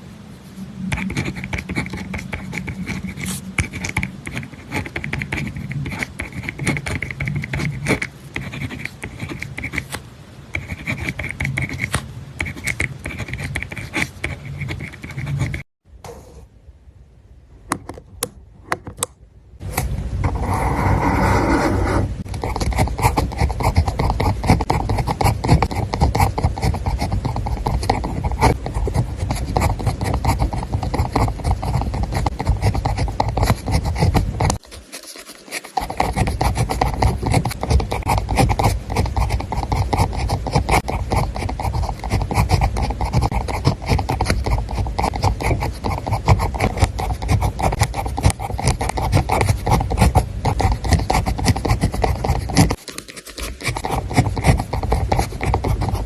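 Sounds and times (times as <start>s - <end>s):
pen scratching on paper: 0.9s - 16.3s, 19.6s - 56.0s.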